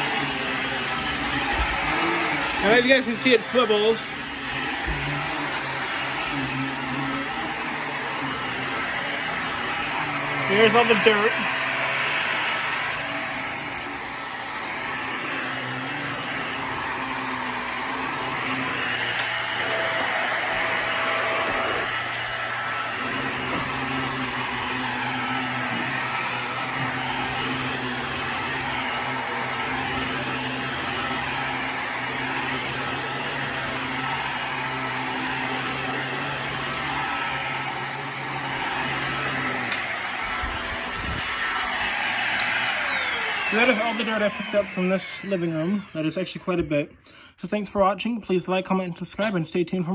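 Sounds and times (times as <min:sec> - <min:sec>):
vacuum cleaner running: 0:00.0 - 0:47.2.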